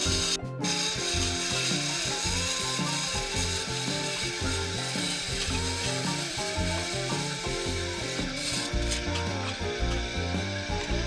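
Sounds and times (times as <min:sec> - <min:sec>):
instrumental music with bass line: 0:00.0 - 0:11.0
machine rasping hiss: 0:00.0 - 0:11.0.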